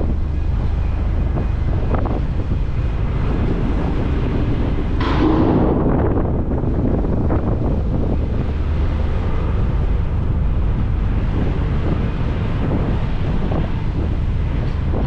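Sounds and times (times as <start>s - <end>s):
ferry engine rumble: 0.0s - 15.0s
wind buffeting microphone: 0.0s - 15.0s.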